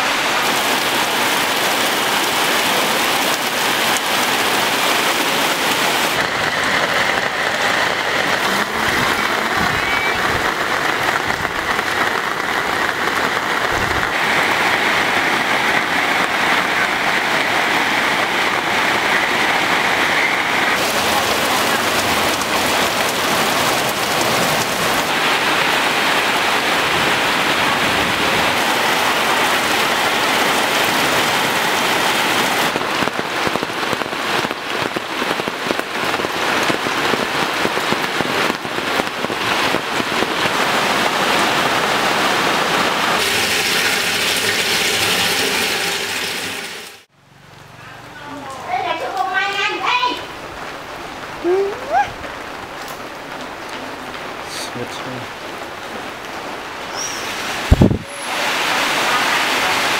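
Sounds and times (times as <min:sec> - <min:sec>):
raindrop impacts: 0:00.0 - 0:47.1, 0:48.4 - 0:59.9
heavy rain hissing: 0:00.0 - 0:59.9.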